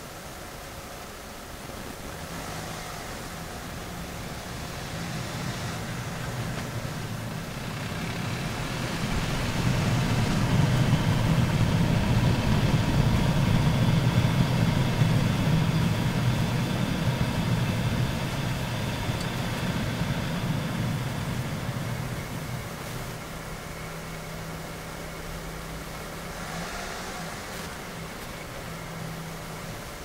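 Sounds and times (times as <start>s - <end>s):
wheel rumble: 0.0s - 30.0s
hissing swishing brake noise: 2.3s - 23.7s, 25.6s - 30.0s.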